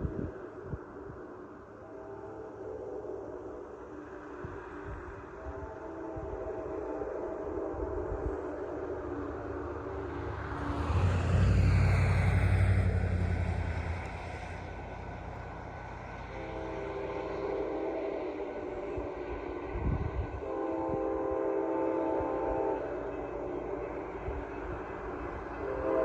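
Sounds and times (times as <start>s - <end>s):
moving train rumbling: 0.0s - 26.0s
train horn blasts: 1.7s - 3.0s, 5.2s - 26.0s.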